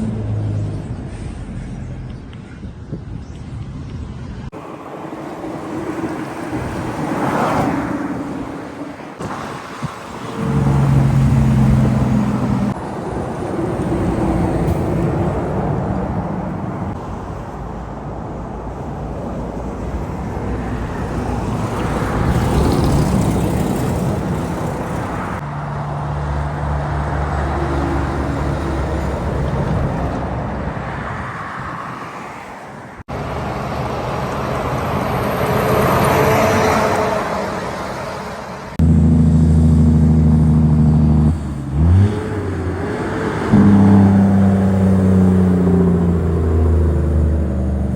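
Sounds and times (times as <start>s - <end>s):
heavy trucks driving past: 4.4s - 47.9s.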